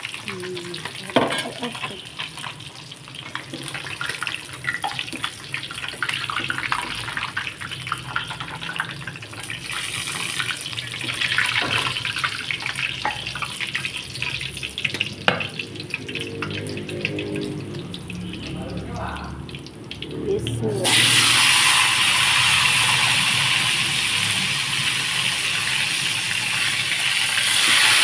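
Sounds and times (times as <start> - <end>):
fish frying in oil: 0.0 - 28.0.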